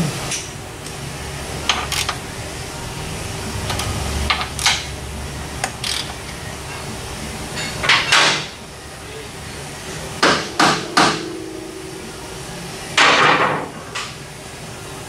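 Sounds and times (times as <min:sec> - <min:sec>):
low shop hum: 0:00.0 - 0:15.0.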